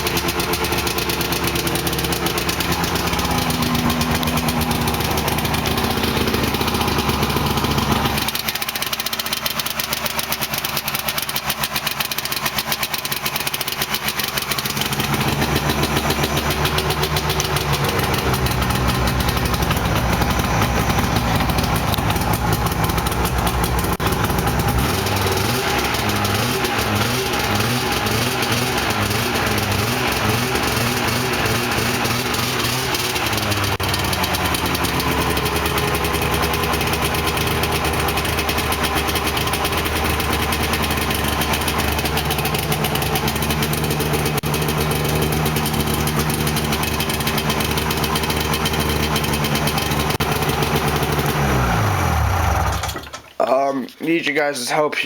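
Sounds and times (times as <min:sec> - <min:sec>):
two-stroke engine idling: 0:00.0 - 0:53.2.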